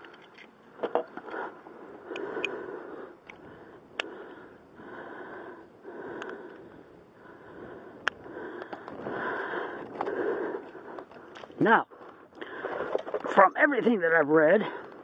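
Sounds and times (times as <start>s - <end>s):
man breathing heavily: 1.0s - 13.3s, 14.5s - 15.0s.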